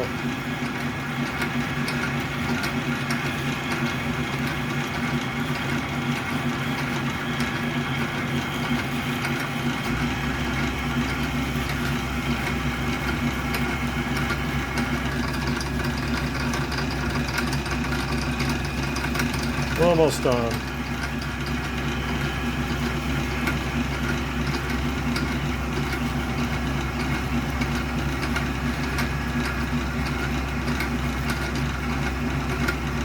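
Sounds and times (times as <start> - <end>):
lathe motor and gears humming: 0.0 - 33.0.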